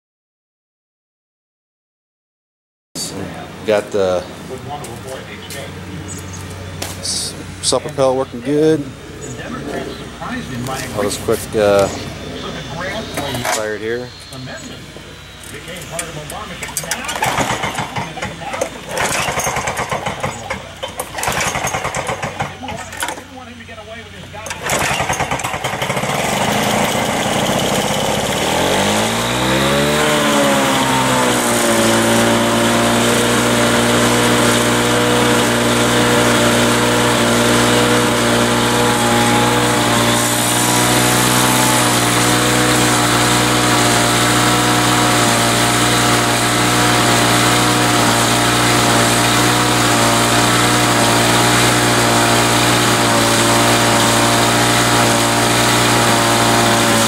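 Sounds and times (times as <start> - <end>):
lawn mower engine running: 3.0 - 57.0.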